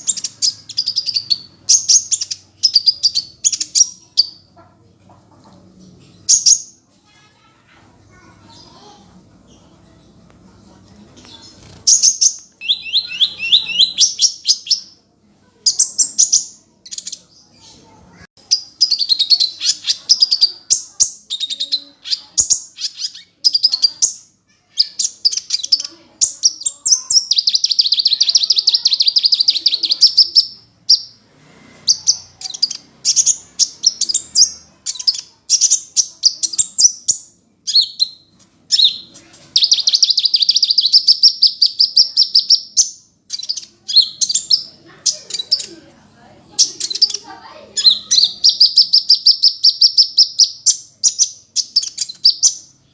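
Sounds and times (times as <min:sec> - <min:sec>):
bird singing rapid chirps and trills: 0:00.0 - 0:04.7, 0:11.2 - 0:15.0, 0:15.6 - 0:31.2, 0:31.8 - 0:45.8, 0:46.4 - 0:52.9.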